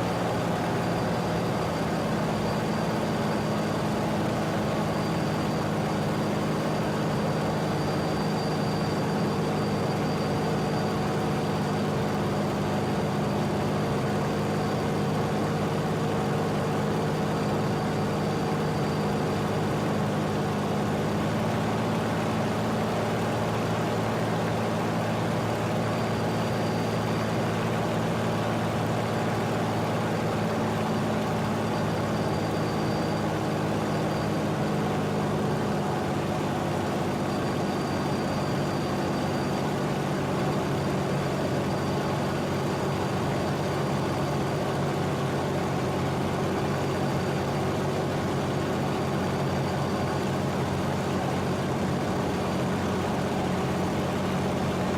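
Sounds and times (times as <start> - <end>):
aircraft engine running: 0.0 - 54.9.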